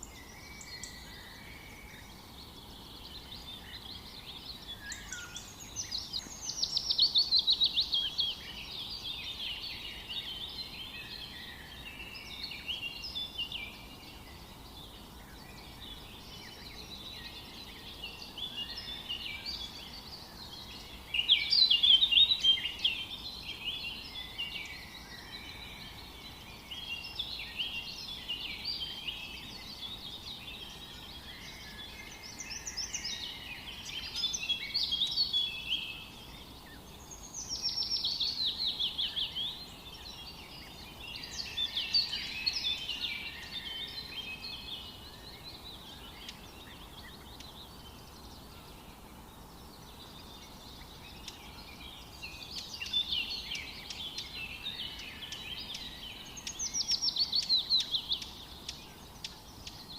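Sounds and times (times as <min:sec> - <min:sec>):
faint background hiss: 0:00.0 - 0:59.9
songbirds chirping and trilling: 0:00.0 - 0:59.9.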